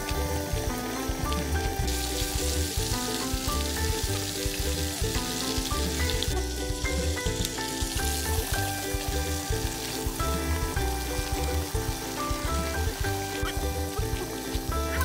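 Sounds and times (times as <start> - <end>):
background music with pulsing bass: 0.0 - 15.0
hot oil sizzling: 0.0 - 15.0.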